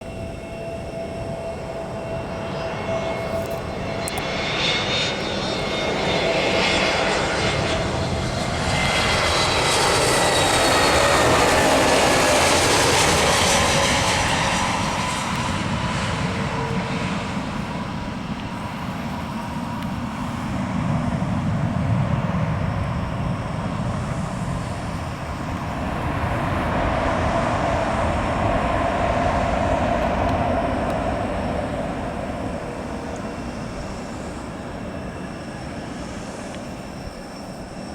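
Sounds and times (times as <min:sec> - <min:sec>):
jet engines roar and whine: 0:00.0 - 0:37.9.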